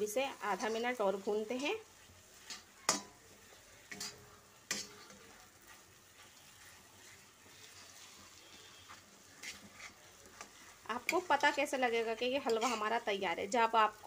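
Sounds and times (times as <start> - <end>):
spatula scraping a pan: 0.0 - 13.0
faint sizzle: 0.0 - 14.0.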